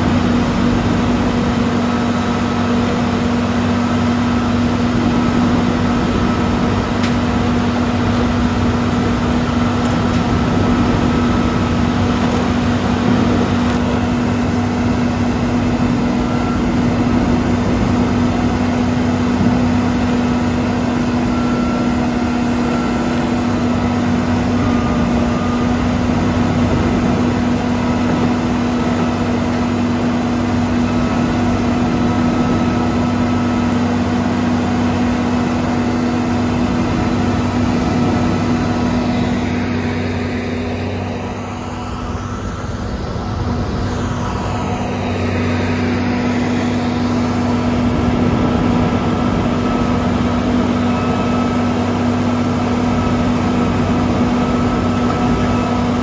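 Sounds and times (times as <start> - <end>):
wood grinder roaring: 0.0 - 56.0.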